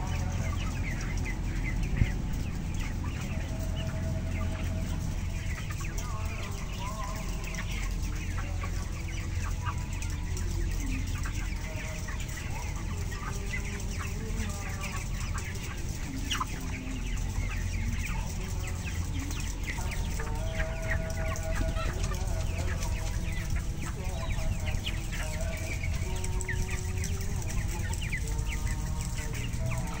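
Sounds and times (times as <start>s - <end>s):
chickens clucking and peeping: 0.0s - 30.0s.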